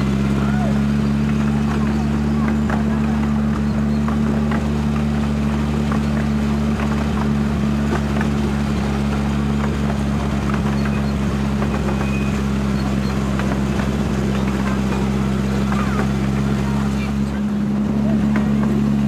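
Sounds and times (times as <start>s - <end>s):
model locomotive engine drone: 0.0s - 19.0s.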